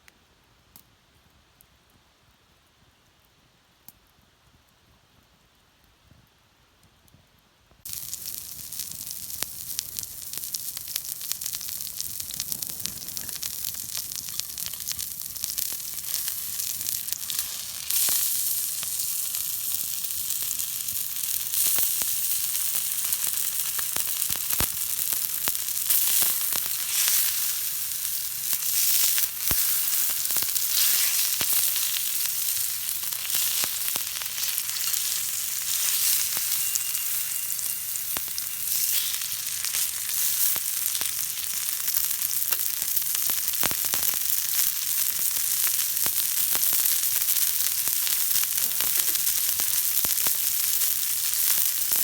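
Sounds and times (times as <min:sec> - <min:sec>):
food sizzling in hot fat: 0:07.8 - 0:52.0.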